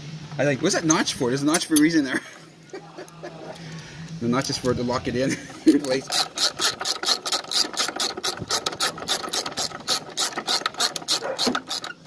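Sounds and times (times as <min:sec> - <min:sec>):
ratchet wrench clicking: 0:00.7 - 0:02.2, 0:03.0 - 0:12.0.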